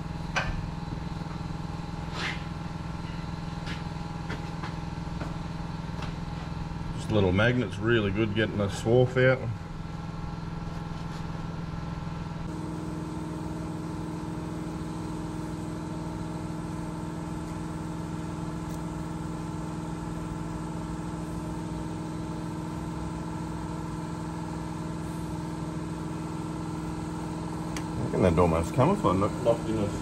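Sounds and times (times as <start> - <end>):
air compressor humming: 0.0 - 30.0.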